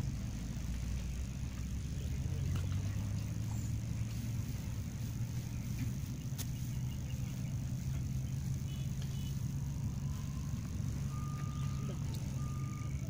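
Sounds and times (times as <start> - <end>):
faint high buzz: 0.0 - 13.0
low motor hum: 0.0 - 13.0
thin steady tone: 0.0 - 13.0.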